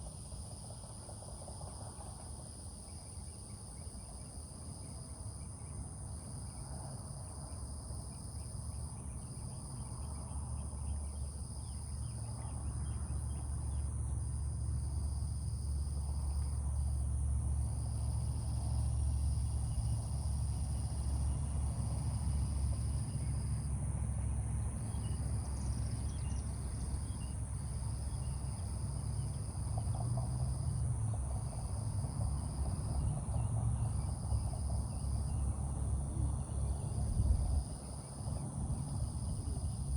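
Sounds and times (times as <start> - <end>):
lower insect trill: 2.0 - 39.9
high insect trill: 2.6 - 39.9.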